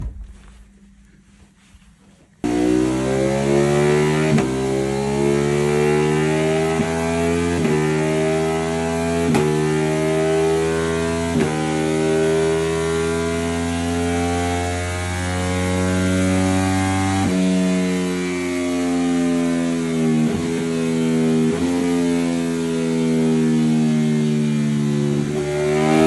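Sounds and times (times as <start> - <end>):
motorcycle engine accelerating hard: 2.4 - 26.0.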